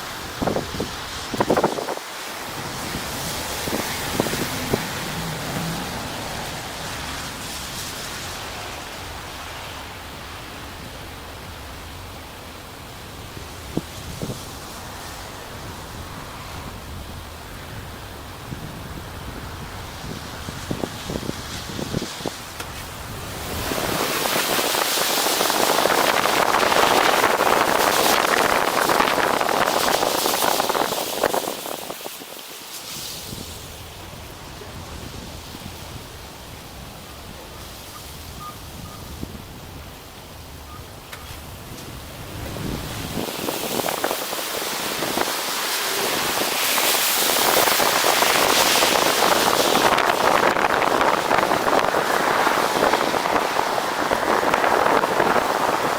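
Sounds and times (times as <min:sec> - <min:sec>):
tyres hissing on wet road: 0:00.0 - 0:55.9.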